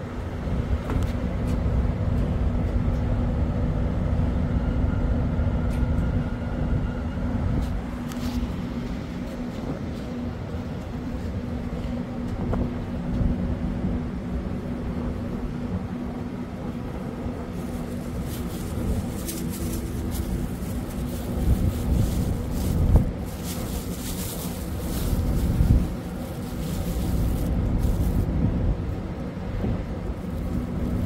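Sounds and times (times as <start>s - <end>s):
ship machinery humming: 0.0s - 31.0s
wind buffeting microphone: 5.3s - 31.0s.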